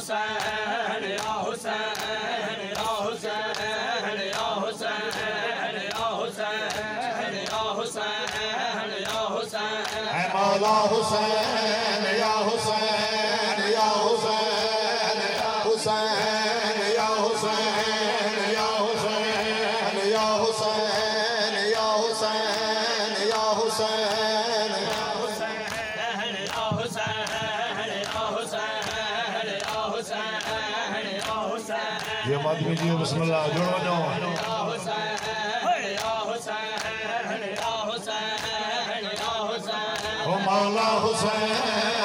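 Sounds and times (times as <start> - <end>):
men chanting in unison: 0.0 - 42.0.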